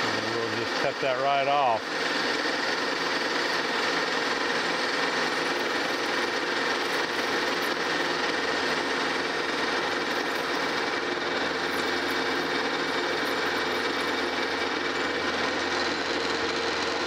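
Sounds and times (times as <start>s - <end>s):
metal lathe running: 0.0s - 17.0s
tool cutting metal: 0.0s - 17.0s.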